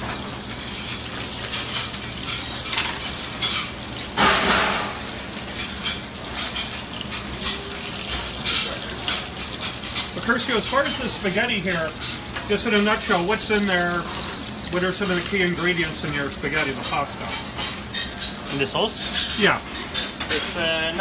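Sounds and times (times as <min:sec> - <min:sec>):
scallops sizzling in fat: 0:00.0 - 0:21.0.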